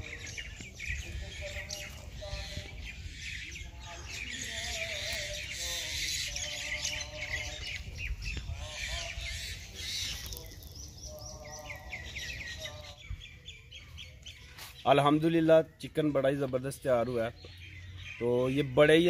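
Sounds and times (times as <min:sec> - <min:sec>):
birds chirping in chorus: 0:00.0 - 0:19.0.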